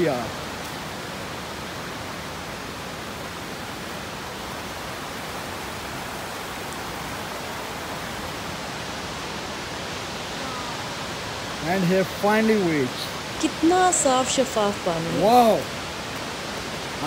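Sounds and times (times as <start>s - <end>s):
stream running over boulders: 0.0s - 17.0s
waterfall rushing: 0.0s - 17.0s.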